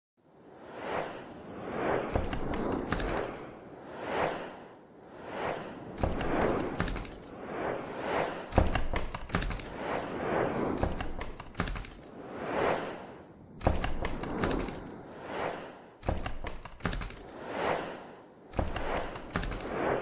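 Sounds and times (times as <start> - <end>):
whooshes: 0.4 - 20.0.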